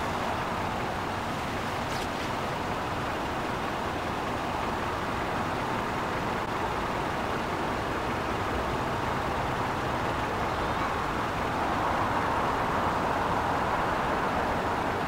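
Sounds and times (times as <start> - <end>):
distant jet engines at takeoff: 0.0 - 15.0.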